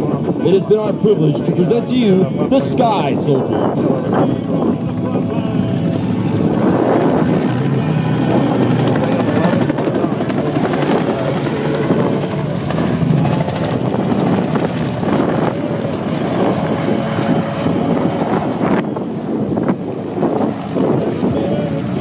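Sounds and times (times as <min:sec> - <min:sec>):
helicopter rotors and engines: 0:00.0 - 0:22.0.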